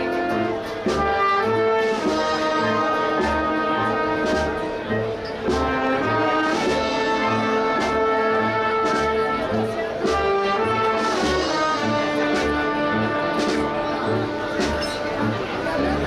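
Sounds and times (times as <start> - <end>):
bass drum beat: 0.0 - 16.0
brass band playing march: 0.0 - 16.0.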